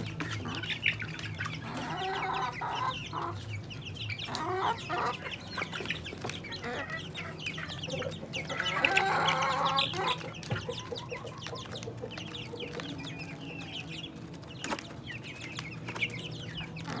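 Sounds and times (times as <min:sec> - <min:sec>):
chickens clucking: 0:00.0 - 0:17.0
chorus of high chirps: 0:00.0 - 0:17.0.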